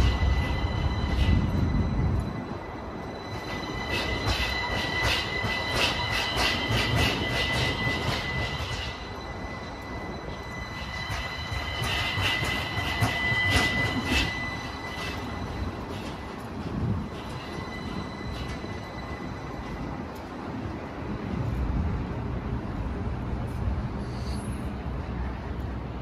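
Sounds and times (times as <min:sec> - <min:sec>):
streetcar wheel squeal: 0:00.0 - 0:20.2, 0:23.8 - 0:25.5.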